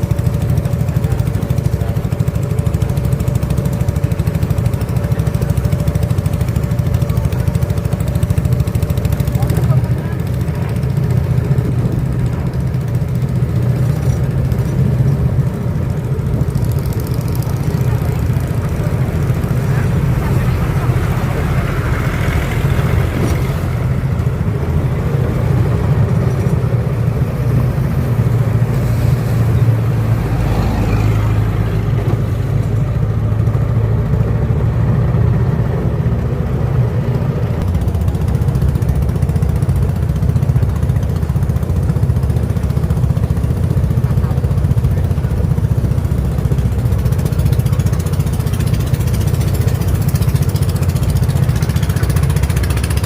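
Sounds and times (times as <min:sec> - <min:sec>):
boat motor droning: 0:00.0 - 0:53.0.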